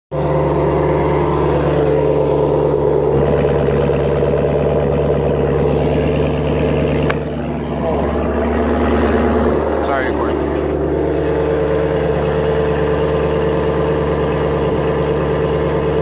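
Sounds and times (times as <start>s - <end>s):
car engine running loudly: 0.1s - 16.0s.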